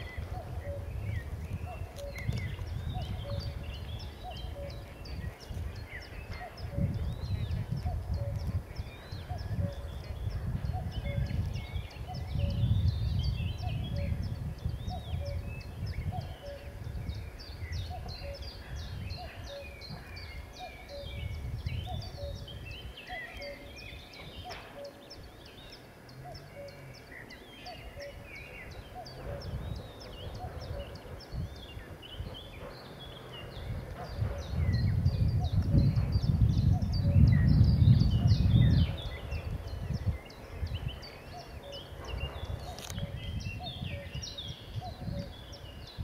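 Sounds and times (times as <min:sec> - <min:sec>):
songbirds chorus: 0:00.0 - 0:46.0.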